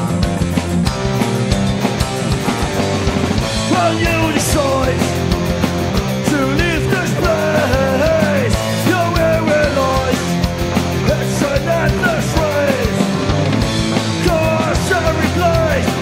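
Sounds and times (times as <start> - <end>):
drums fast steady beat: 0.0 - 16.0
punk rock band playing: 0.0 - 16.0.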